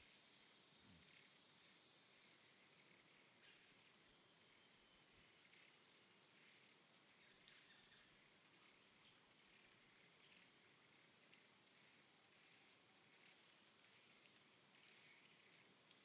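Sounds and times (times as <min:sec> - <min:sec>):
faint high-pitched hiss: 0:00.0 - 0:16.0.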